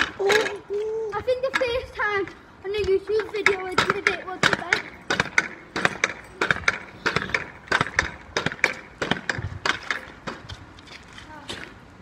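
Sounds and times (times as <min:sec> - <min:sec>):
pogo sticks knocking on paving: 0:00.0 - 0:11.8.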